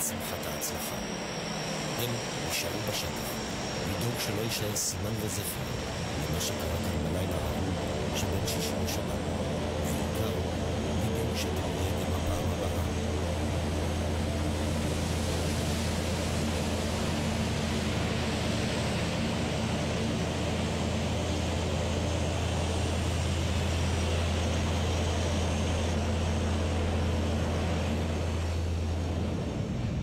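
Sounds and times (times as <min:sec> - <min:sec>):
constant low hum: 0:00.0 - 0:30.0
turboprop engines droning: 0:00.0 - 0:30.0.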